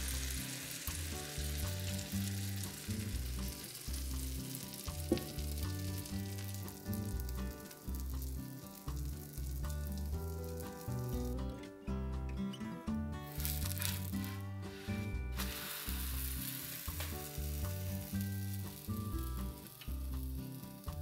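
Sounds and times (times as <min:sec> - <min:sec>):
batter sizzling on griddle: 0:00.0 - 0:11.6, 0:13.3 - 0:21.0
background music: 0:00.0 - 0:21.0.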